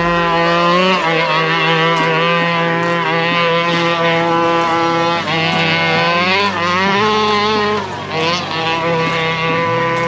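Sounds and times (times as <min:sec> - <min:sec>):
two-stroke engine revving high: 0:00.0 - 0:10.0.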